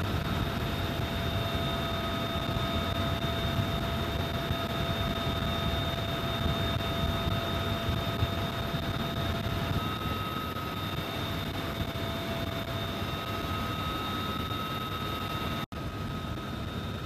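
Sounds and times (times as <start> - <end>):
helicopter rotor and engine rumble: 0.0 - 17.0
high-pitched whine: 0.0 - 17.0.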